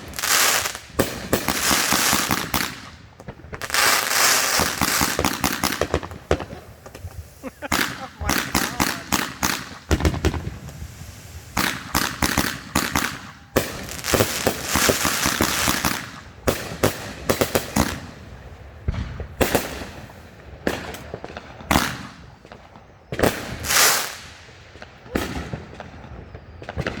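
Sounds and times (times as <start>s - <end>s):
fireworks bangs and pops: 0.0s - 27.0s
fireworks crackling: 0.0s - 27.0s.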